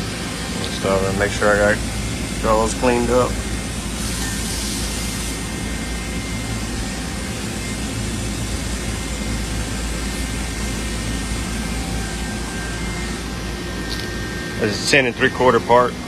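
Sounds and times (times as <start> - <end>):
faint high whine: 0.0 - 16.0
low machine drone: 0.0 - 16.0
machine-shop hiss: 0.0 - 16.0.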